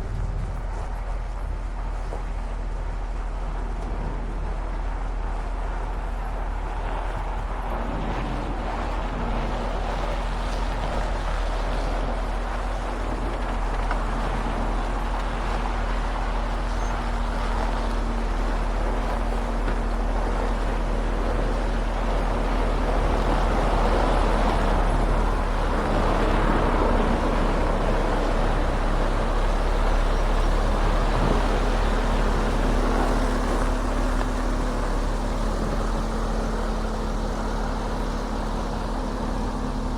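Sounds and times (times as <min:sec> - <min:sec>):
road and tyre noise: 0:00.0 - 0:39.9
truck diesel engine running: 0:00.0 - 0:39.9.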